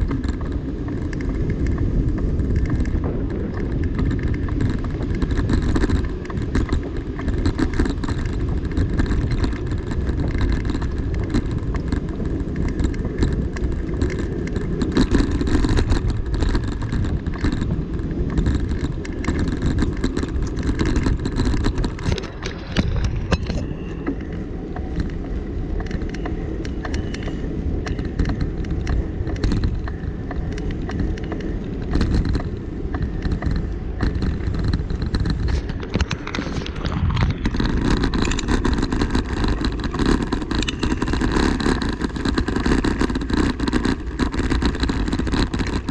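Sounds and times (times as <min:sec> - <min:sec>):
rolling road noise: 0:00.0 - 0:45.9
wind noise on microphone: 0:00.0 - 0:45.9.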